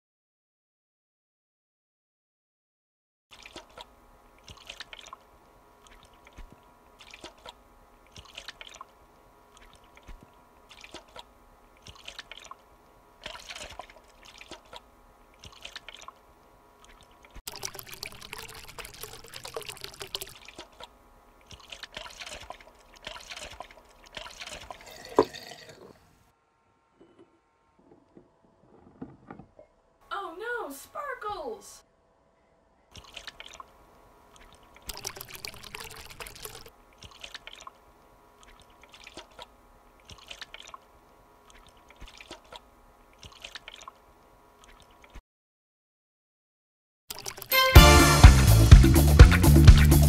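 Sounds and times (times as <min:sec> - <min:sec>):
faint steady hum: 0:03.3 - 0:45.2.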